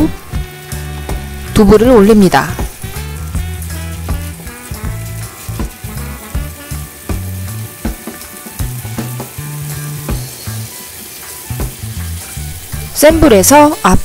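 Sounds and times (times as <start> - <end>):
tofu sizzling in oil: 0.0 - 14.0
music with slow beat: 0.1 - 1.6, 2.6 - 13.0.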